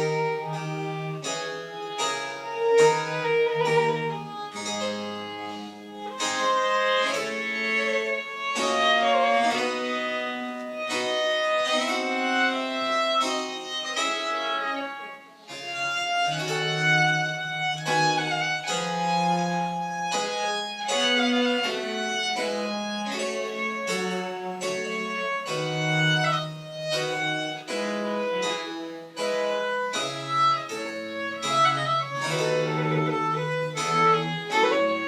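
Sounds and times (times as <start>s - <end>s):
bowed string melody: 0.0s - 35.0s.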